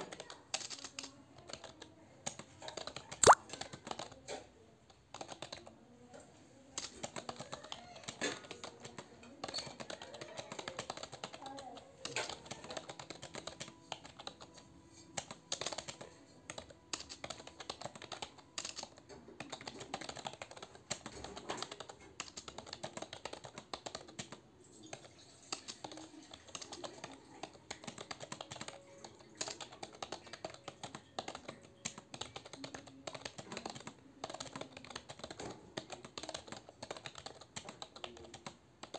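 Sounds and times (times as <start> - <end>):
fast typing on keyboard: 0.0 - 5.8, 6.7 - 38.9.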